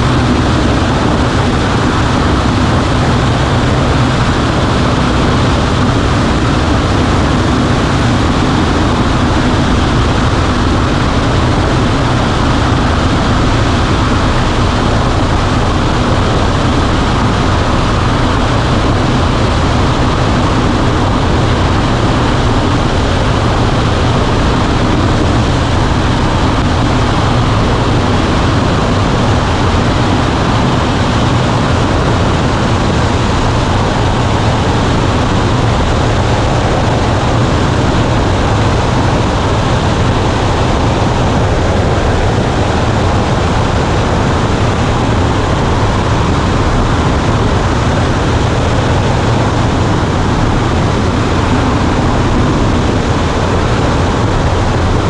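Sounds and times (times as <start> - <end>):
airplane engine and propeller: 0.0 - 55.0.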